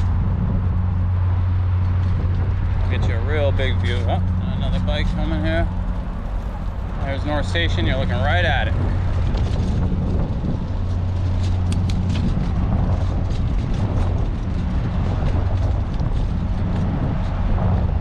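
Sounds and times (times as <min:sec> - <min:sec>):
city traffic rumble: 0:00.0 - 0:18.0
wind on microphone: 0:00.0 - 0:18.0.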